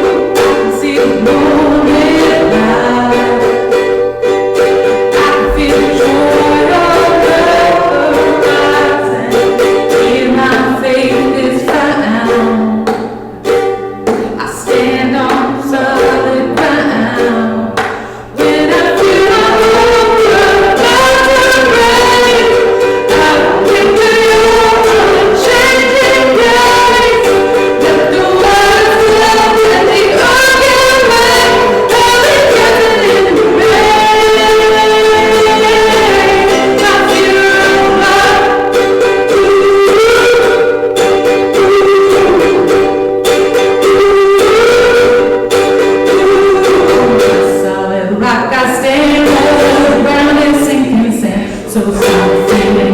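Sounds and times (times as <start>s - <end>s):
congregation singing: 0.0s - 52.9s
plucked strings: 0.0s - 52.9s.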